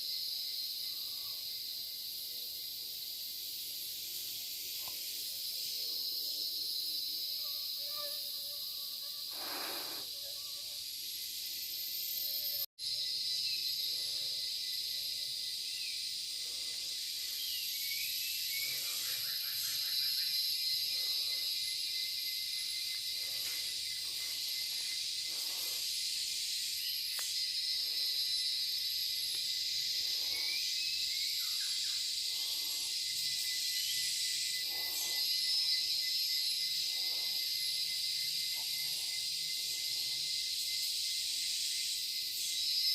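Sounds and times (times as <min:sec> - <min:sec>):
crickets and cicadas droning: 0:00.0 - 0:42.9.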